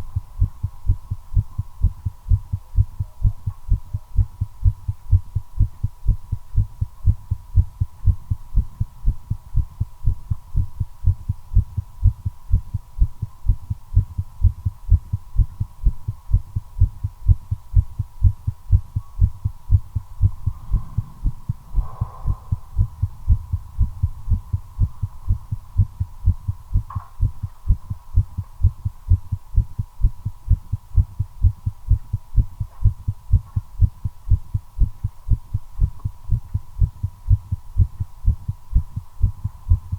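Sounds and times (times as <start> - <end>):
faint high hum: 0.0 - 39.9
fast heartbeat thumps: 0.0 - 39.9.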